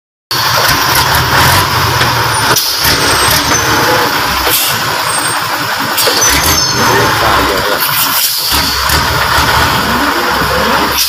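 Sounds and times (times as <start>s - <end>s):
truck engine labouring: 0.3s - 11.0s.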